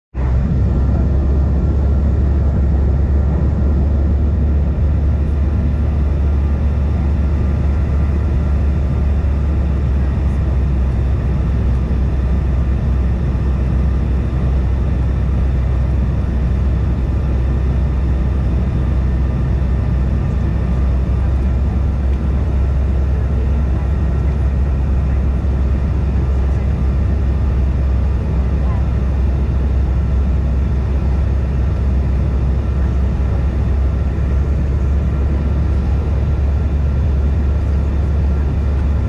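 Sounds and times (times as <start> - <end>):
faint jet engine whine: 0.1 - 39.0
jet cabin rumble: 0.1 - 39.0.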